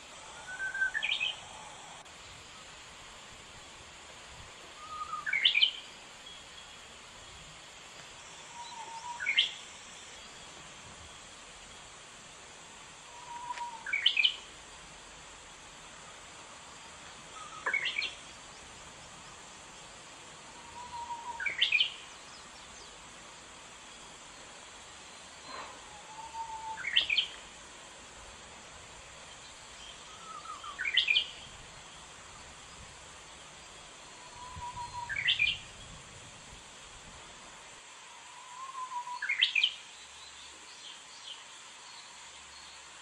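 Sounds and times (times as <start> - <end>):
bush warbler singing: 0.0 - 2.1, 4.7 - 12.0, 13.0 - 14.6, 16.0 - 27.6, 28.9 - 36.8, 38.4 - 43.0.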